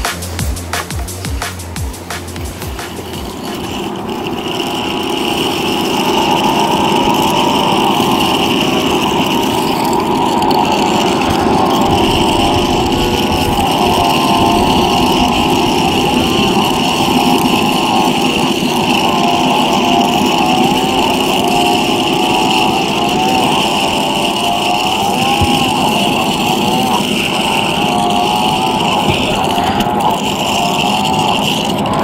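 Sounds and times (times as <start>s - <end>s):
fan drone with wavering pitch: 0.0s - 32.0s.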